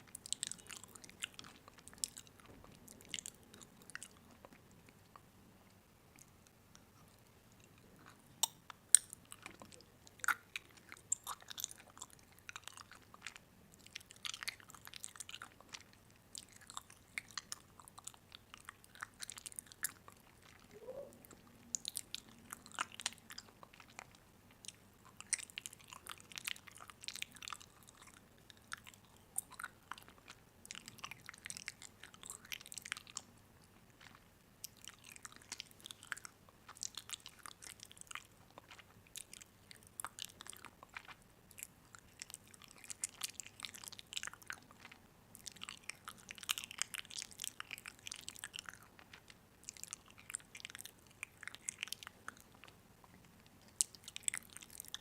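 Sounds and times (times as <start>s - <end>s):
chewing and crunching crisp food: 0.0s - 55.0s.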